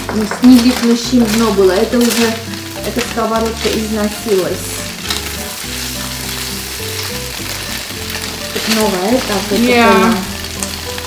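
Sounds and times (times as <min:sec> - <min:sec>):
tofu sizzling in a skillet: 0:00.0 - 0:11.0.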